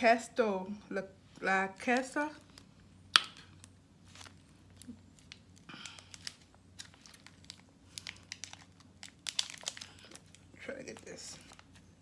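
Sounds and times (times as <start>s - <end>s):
wrapper crinkling and tearing: 2.0s - 12.0s.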